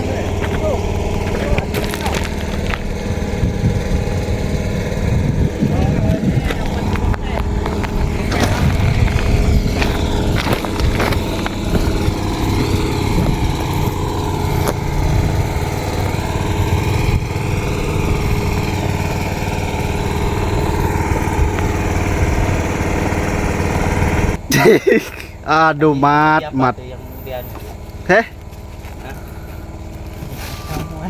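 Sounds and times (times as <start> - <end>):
small engine running: 0.0 - 31.0.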